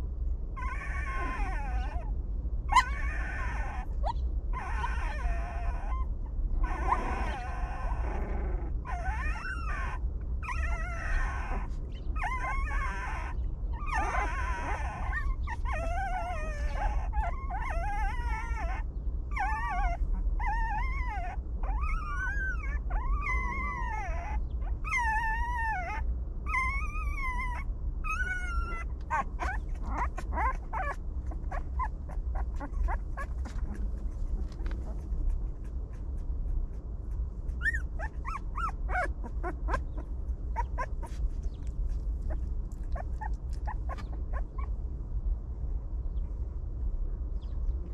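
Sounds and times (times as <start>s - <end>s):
steady low rumble: 0.0s - 47.9s
puppies whining: 0.6s - 2.1s, 2.7s - 36.2s, 37.5s - 44.8s.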